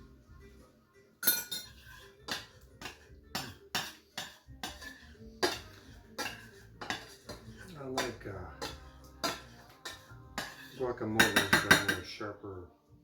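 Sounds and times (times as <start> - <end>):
metal spoon clinking on pot: 1.2 - 12.1.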